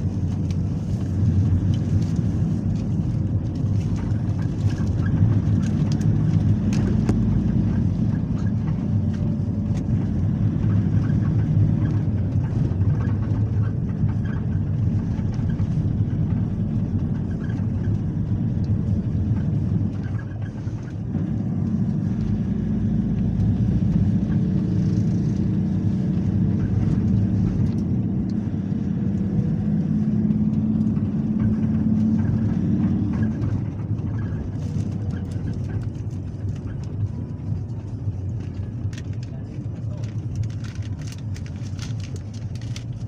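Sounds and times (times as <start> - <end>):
engine hum: 0.0 - 43.0
vehicle road noise drone: 0.0 - 43.0.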